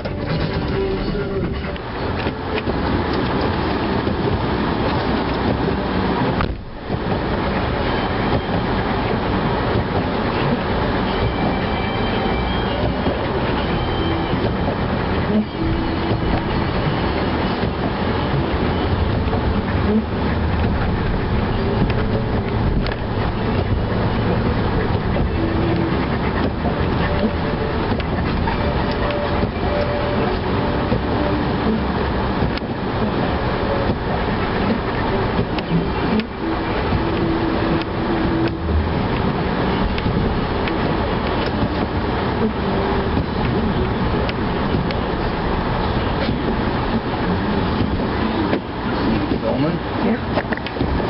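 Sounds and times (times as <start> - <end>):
snowplow truck rumbling: 0.0 - 51.0.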